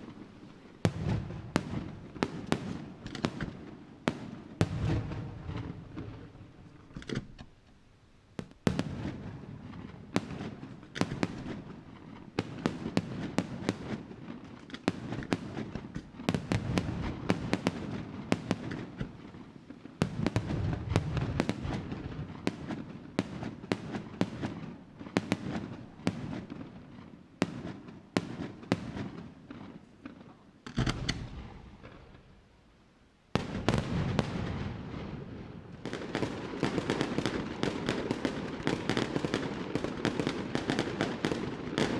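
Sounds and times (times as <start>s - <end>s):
fireworks bangs and cracks: 0.0s - 7.2s, 8.4s - 32.3s, 33.3s - 41.9s.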